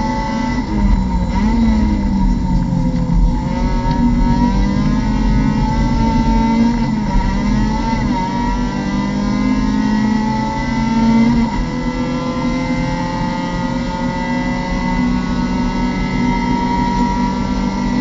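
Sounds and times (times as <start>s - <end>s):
race car engine accelerating: 0.0s - 18.0s.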